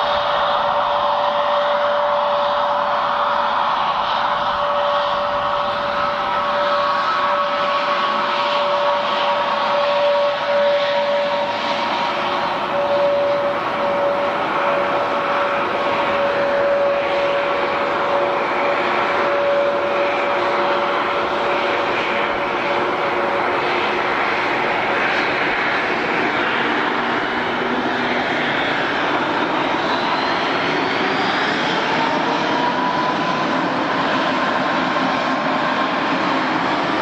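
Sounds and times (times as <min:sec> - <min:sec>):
airliner engines roaring: 0:00.0 - 0:37.0
high engine whine: 0:00.0 - 0:37.0.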